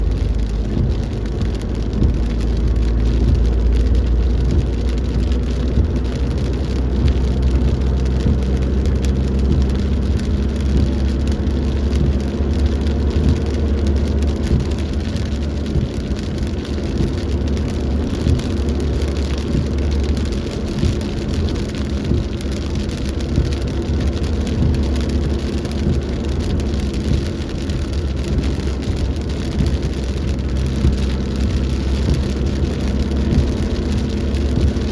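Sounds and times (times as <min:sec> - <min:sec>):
heavy rain falling: 0:00.0 - 0:34.9
low rumble: 0:00.0 - 0:34.9.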